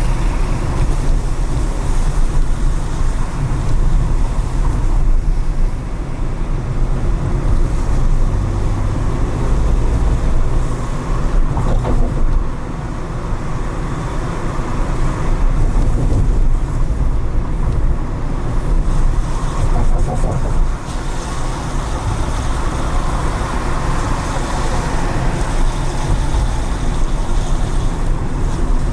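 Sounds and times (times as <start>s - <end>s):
car road and tyre noise: 0.0s - 28.9s.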